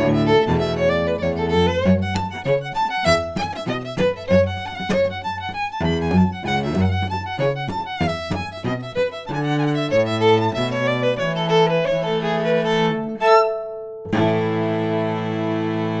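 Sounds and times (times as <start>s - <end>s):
fiddle and cello playing reel: 0.0s - 16.0s.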